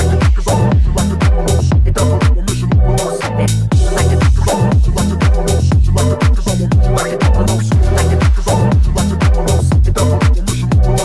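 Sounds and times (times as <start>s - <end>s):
steady kick drum: 0.0s - 3.1s, 3.7s - 11.0s
electronic dance music: 0.0s - 11.0s.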